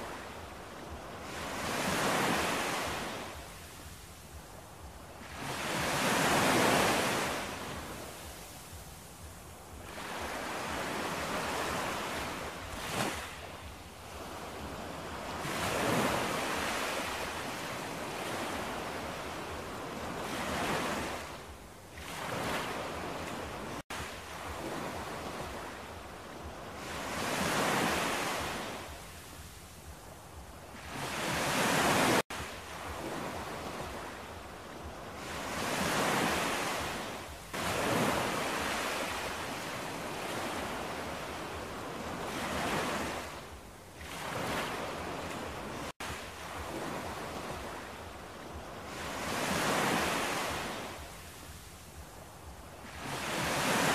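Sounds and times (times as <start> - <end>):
waves breaking and washing in: 0.0 - 53.9.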